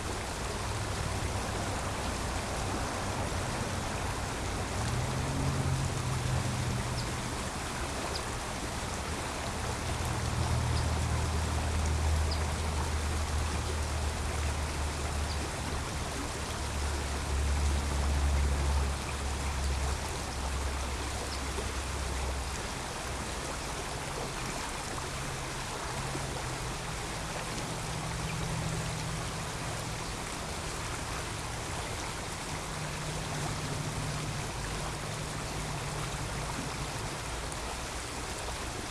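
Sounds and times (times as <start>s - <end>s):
creek water running: 0.0s - 38.9s
road traffic rumble: 0.3s - 23.2s, 26.0s - 38.8s.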